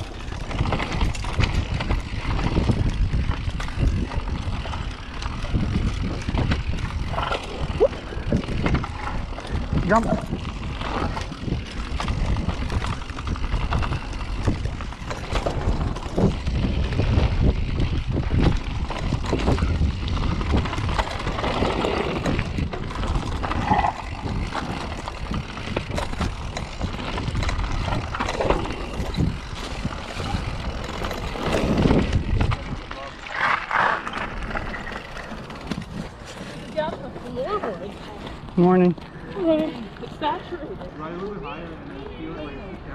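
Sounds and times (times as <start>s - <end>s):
wind rumble on microphone: 0.0s - 36.8s
bike frame and chain rattling: 0.0s - 41.4s.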